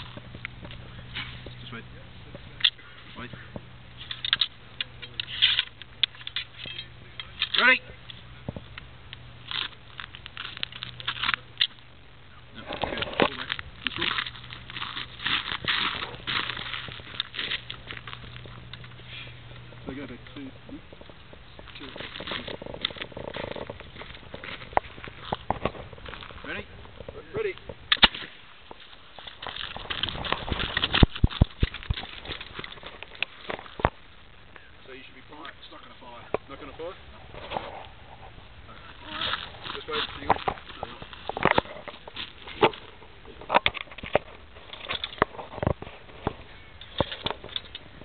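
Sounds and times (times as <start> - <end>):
handling noise rustling and scraping: 3.2 - 11.9, 12.6 - 34.1, 35.6 - 48.0.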